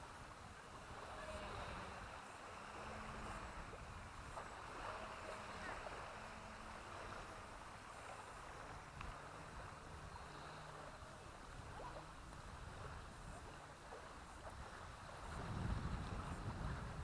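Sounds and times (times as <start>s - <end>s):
faint wind: 0.0s - 17.0s.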